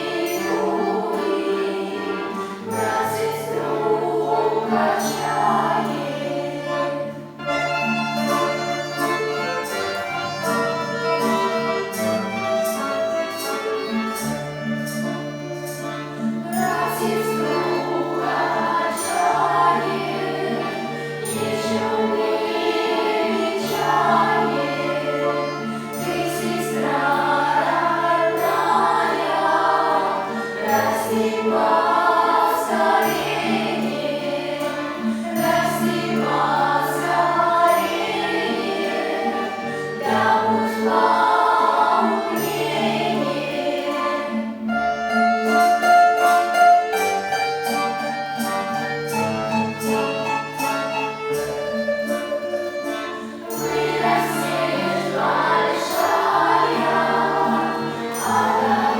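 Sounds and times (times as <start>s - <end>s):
folk instrument ensemble playing: 0.0s - 58.9s.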